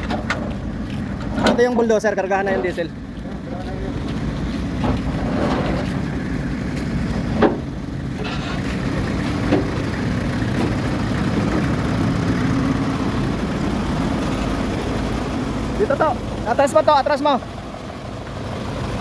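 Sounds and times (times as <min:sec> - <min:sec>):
large diesel engine running: 0:00.0 - 0:19.0.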